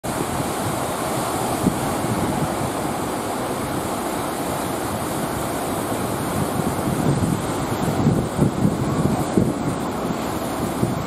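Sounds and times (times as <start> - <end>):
heavy surf breaking: 0.0 - 11.0
wind on microphone: 0.0 - 11.0.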